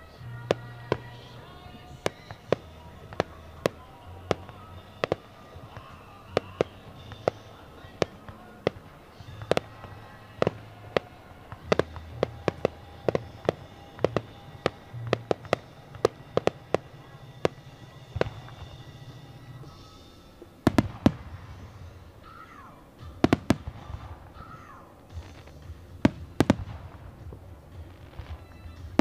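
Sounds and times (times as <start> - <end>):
fireworks bursting with sharp bangs: 0.0 - 29.0.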